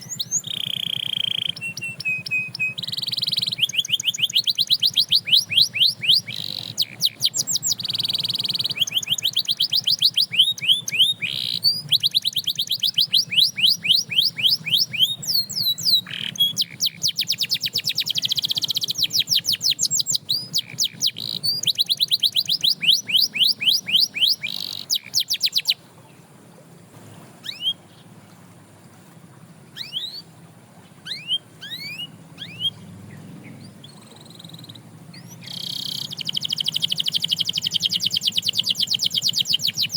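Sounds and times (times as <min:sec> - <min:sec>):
canary trilling: 0:00.0 - 0:25.8, 0:27.4 - 0:27.8, 0:29.7 - 0:30.3, 0:31.0 - 0:39.9
quiet rising bird chirps: 0:00.0 - 0:39.9.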